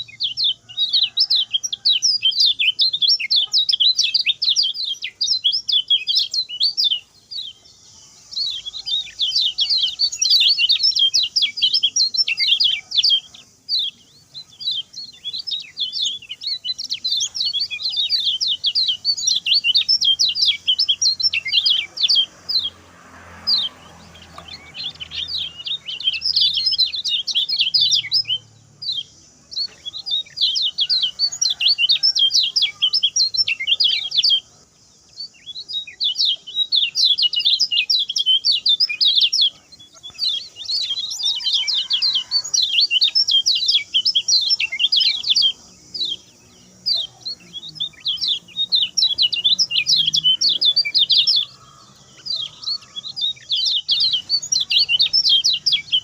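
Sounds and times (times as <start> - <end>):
bird singing chirping notes: 0.0 - 56.0.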